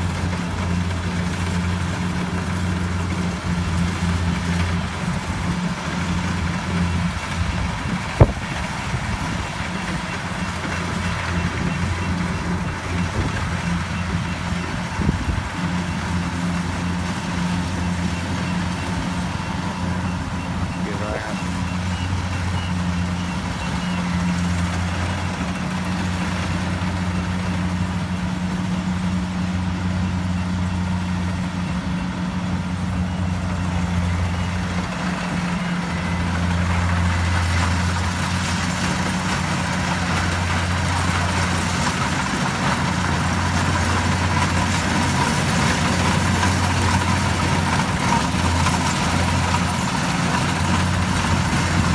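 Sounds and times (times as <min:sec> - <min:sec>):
combine harvester engine humming: 0:00.0 - 0:51.9.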